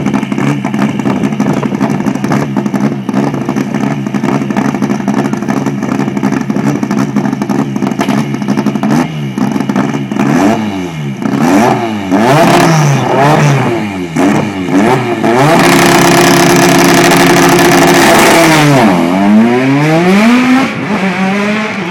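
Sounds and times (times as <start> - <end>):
race car engine revving: 0.0 - 21.9.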